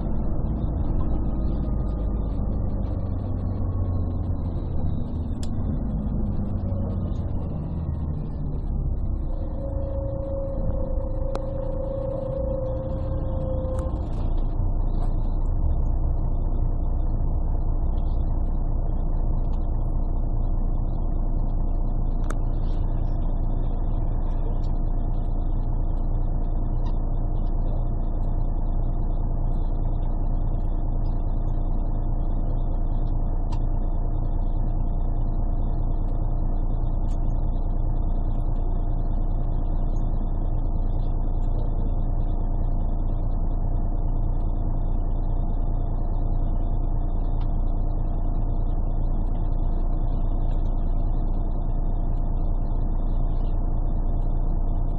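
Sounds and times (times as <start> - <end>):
muffled bus diesel engine running: 0.0 - 54.9.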